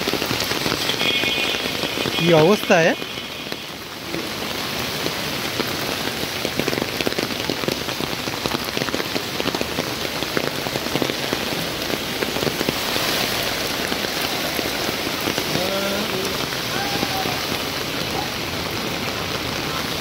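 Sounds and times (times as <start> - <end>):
heavy rain on floodwater: 0.0 - 20.0.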